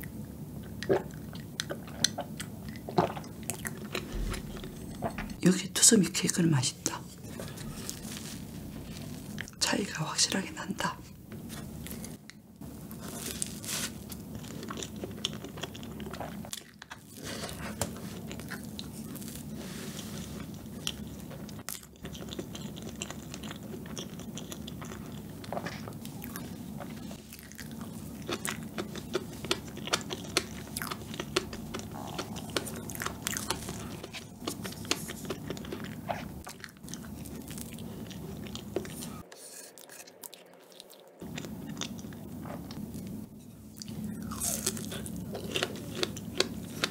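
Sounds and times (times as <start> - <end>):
chewing soft cake: 0.0 - 5.4, 11.3 - 46.9.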